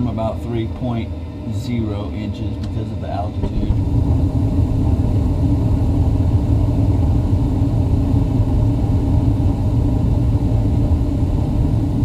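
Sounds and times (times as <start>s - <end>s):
gas furnace burners rumbling: 0.0s - 12.0s.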